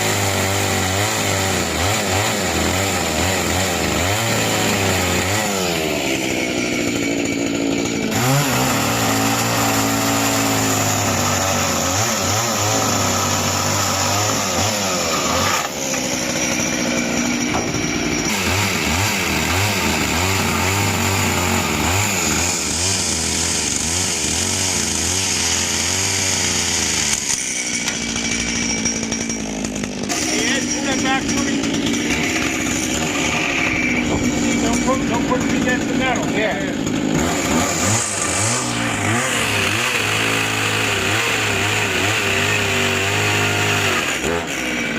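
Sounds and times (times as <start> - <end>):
chainsaw running and cutting: 0.0 - 44.9.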